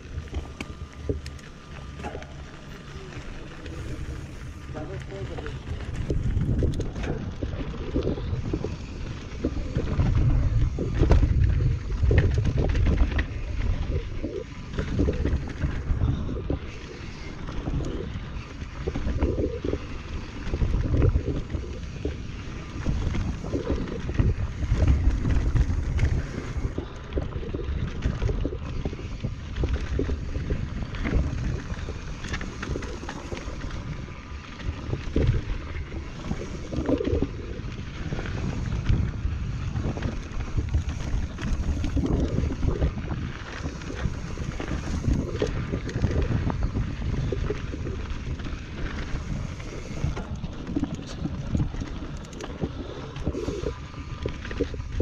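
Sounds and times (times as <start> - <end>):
bike tyre rumble: 0.0 - 55.0
wind buffeting microphone: 0.0 - 55.0.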